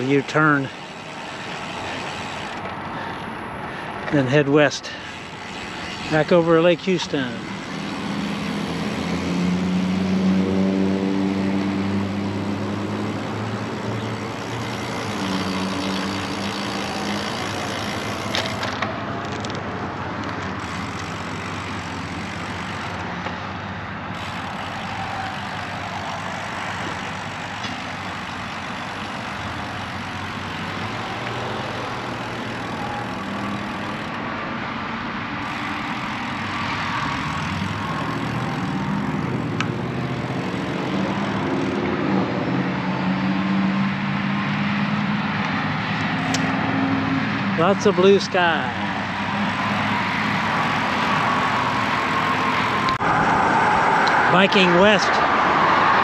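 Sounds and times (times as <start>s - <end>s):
bicycle riding rushing noise: 0.0s - 56.0s
heavy engine hum: 0.0s - 56.0s
vehicles passing: 0.0s - 56.0s.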